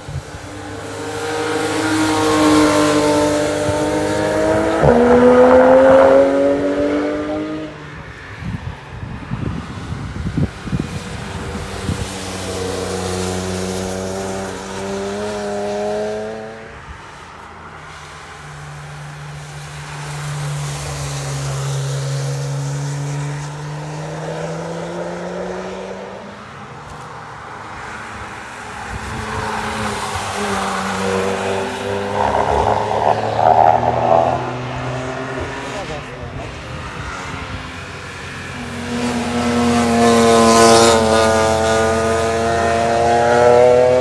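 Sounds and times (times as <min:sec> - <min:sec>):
race cars accelerating past: 0:00.1 - 0:08.0, 0:10.8 - 0:16.8, 0:19.4 - 0:26.5, 0:27.3 - 0:44.0.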